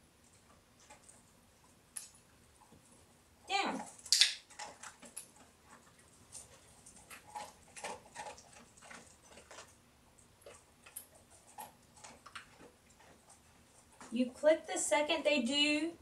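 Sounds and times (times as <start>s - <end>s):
dog crunching kibble: 0.1s - 14.2s.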